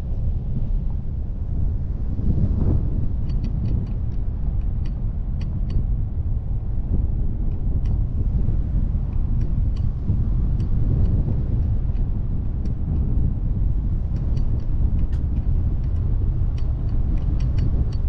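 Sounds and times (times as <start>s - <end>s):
wind: 0.0s - 18.0s
gravel ticks: 2.6s - 18.0s.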